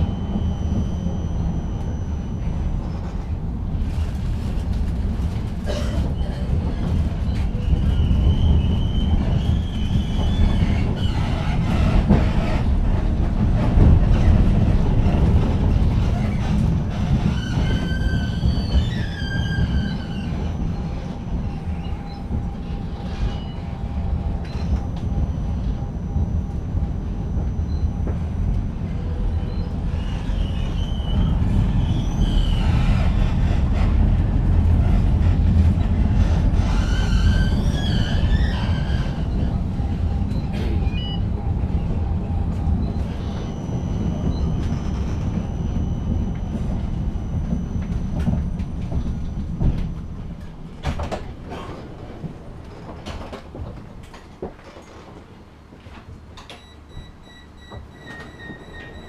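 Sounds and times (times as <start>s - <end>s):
wheels squealing on rails: 0.0s - 55.2s, 56.4s - 59.0s
tram rumbling: 0.0s - 59.0s.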